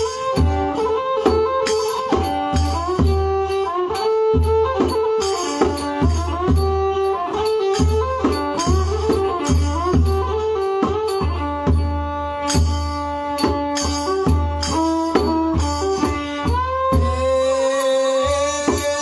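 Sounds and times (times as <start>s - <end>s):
bowed fiddle sliding melody: 0.0s - 19.0s
drums beating steady rhythm: 0.0s - 19.0s
small percussion clicking: 0.0s - 19.0s.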